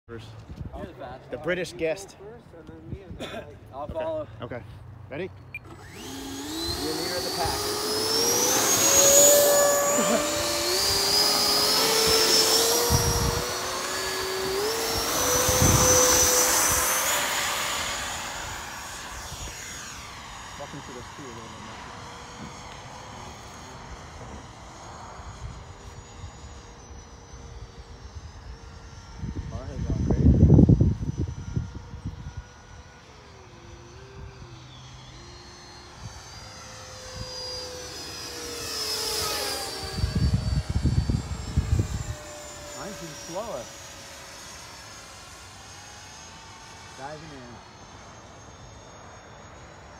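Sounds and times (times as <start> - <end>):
model jets whining: 0.1 - 49.9.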